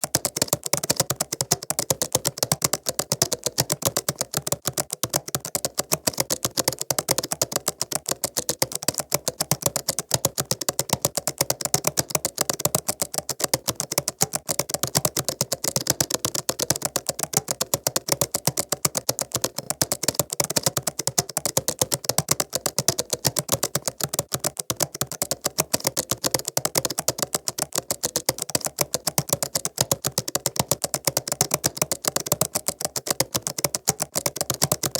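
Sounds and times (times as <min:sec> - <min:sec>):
fast typing on laptop keyboard: 0:00.0 - 0:34.9.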